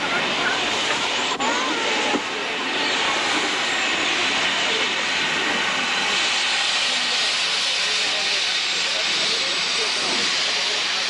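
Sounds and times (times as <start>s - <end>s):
faint voices: 0.0s - 11.0s
steam locomotive venting steam: 0.0s - 11.0s.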